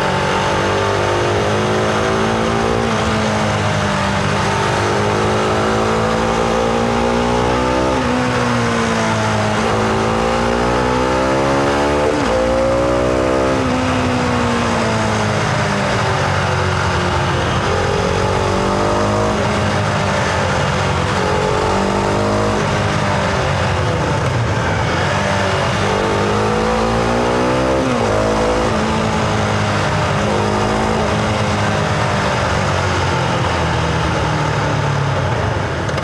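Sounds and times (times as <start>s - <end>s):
motorcycle engine running: 0.0s - 36.0s
wind and road noise: 0.0s - 36.0s.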